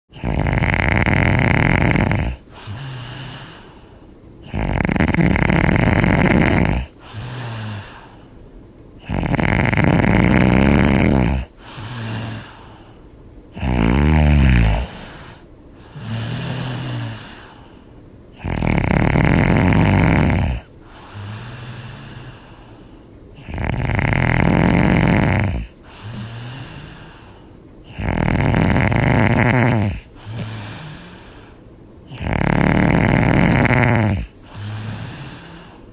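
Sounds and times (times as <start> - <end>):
person snoring loudly: 0.1 - 3.7, 4.4 - 8.2, 9.0 - 12.7, 13.5 - 17.6, 18.4 - 22.5, 23.4 - 35.8.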